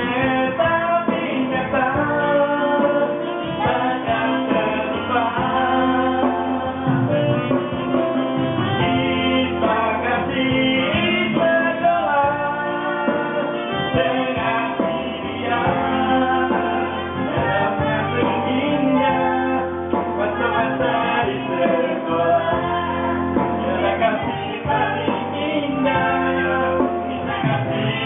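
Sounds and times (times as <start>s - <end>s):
instrumental backing music: 0.0s - 28.0s
man and woman singing duet: 0.0s - 28.0s.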